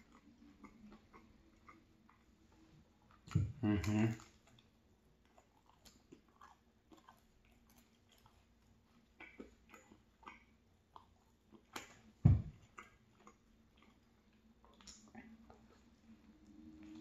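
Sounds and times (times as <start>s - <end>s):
wet chewing and mouth smacks: 0.0s - 17.0s.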